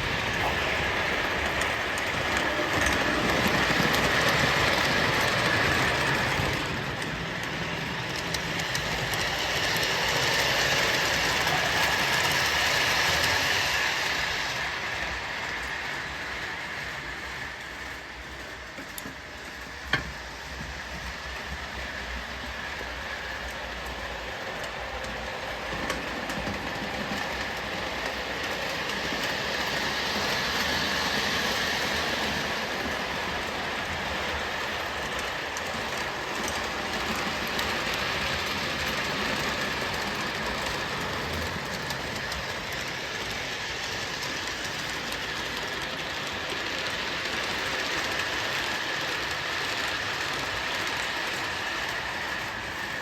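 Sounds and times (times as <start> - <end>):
model train rattling on track: 0.0 - 53.0.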